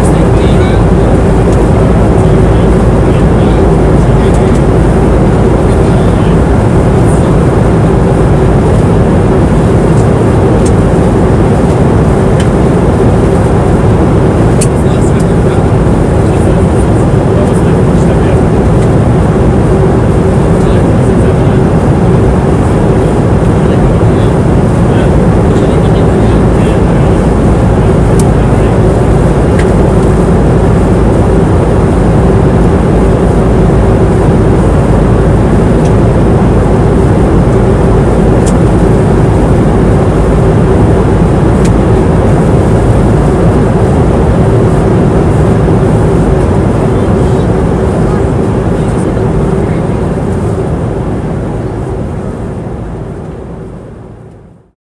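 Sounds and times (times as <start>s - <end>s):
constant low hum: 0.0s - 54.8s
engine and airflow rush: 0.0s - 54.8s.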